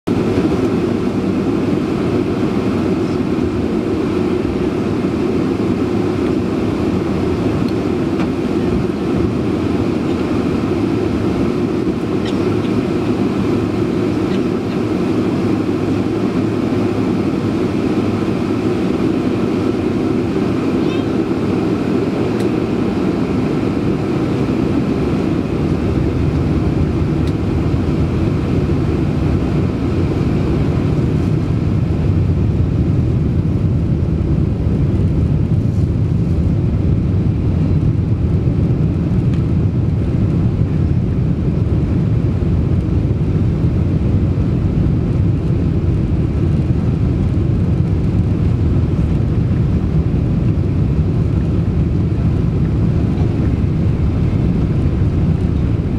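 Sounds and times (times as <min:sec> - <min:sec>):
high engine whine: 0:00.0 - 0:55.9
jet engines deep rumble: 0:00.0 - 0:55.9.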